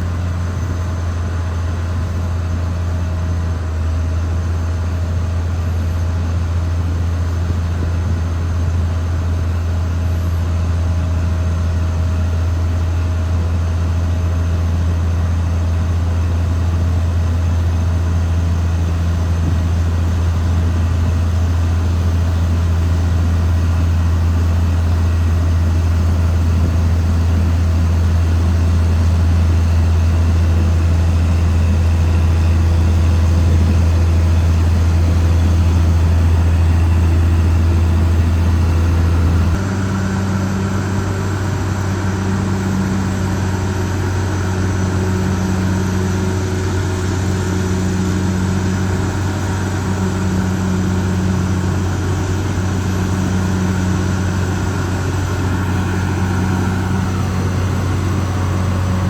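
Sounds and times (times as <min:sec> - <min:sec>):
bulldozer diesel engine drone: 0:00.0 - 0:59.0.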